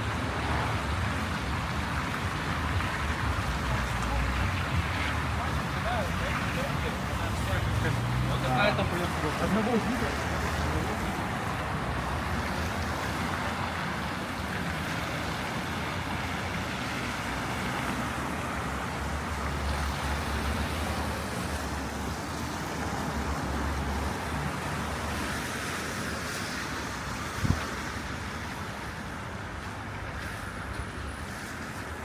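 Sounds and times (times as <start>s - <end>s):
passing vehicles rumble: 0.0s - 32.0s
tyres hissing on road: 0.0s - 32.0s.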